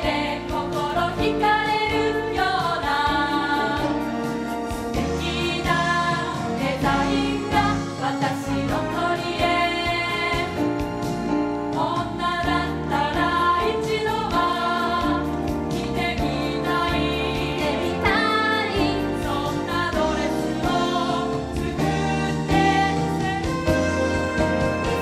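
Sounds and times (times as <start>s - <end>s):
women singing together: 0.0s - 4.1s, 4.9s - 11.1s, 11.7s - 25.0s
musical accompaniment with beat: 0.0s - 25.0s.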